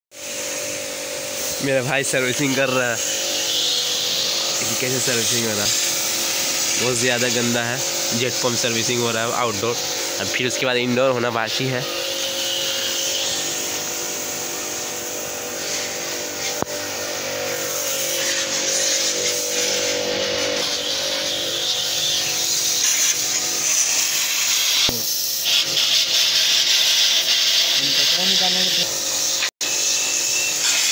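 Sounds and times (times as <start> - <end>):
pump motor hum: 0.2 - 30.9
water jet hissing: 0.2 - 30.9.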